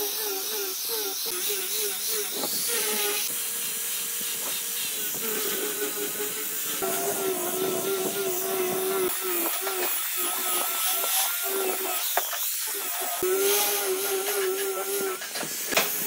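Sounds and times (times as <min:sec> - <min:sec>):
angle grinder motor whine: 0:00.0 - 0:16.0
sanding disc hissing on wood: 0:00.0 - 0:16.0.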